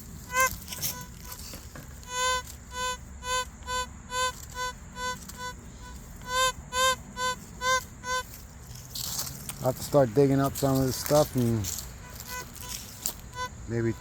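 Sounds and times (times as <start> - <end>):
metal detector beeping: 0.0 - 8.4, 10.8 - 14.0.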